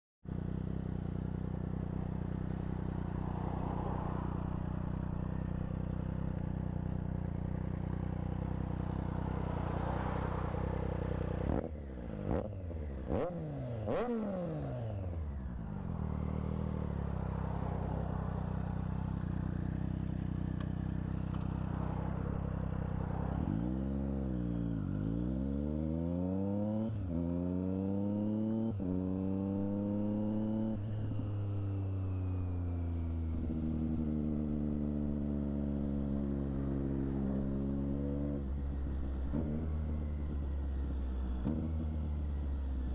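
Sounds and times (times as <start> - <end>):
motorcycle engine idling and revving: 0.2 - 42.9
motorcycle accelerating: 0.3 - 42.9.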